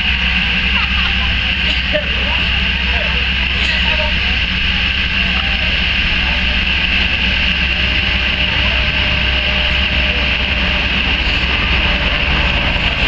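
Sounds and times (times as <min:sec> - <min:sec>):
propeller drone: 0:00.0 - 0:13.0
turbine whine: 0:00.0 - 0:13.0.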